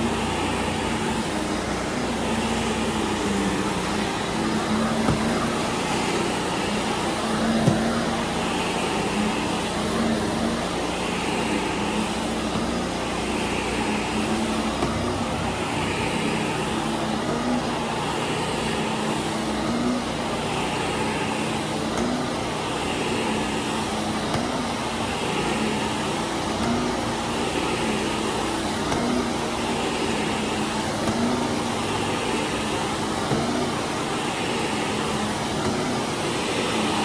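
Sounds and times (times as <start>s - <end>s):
power washer rushing: 0.0s - 37.0s
vacuum cleaner motor drone: 0.0s - 37.0s.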